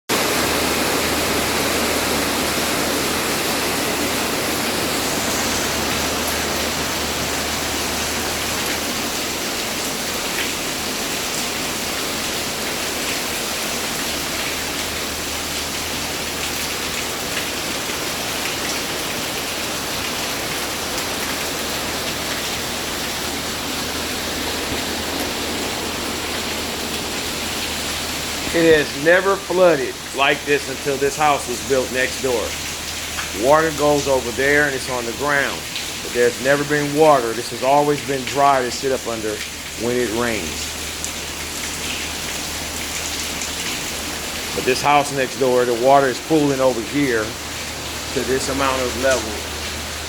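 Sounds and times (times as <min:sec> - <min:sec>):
rain falling: 0:00.1 - 0:50.0
water pouring and running off: 0:00.1 - 0:50.0.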